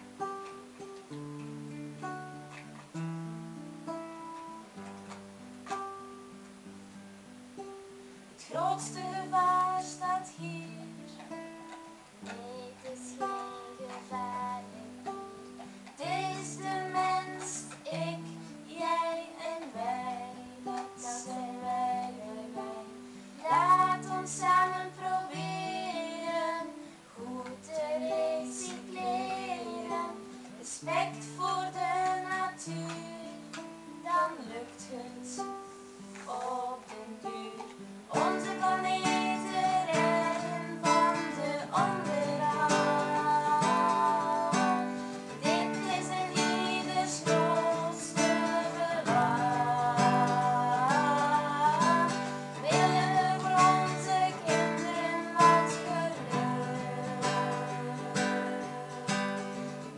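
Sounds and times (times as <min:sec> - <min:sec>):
acoustic guitar: 0:00.0 - 0:59.9
girl singing: 0:08.3 - 0:59.9.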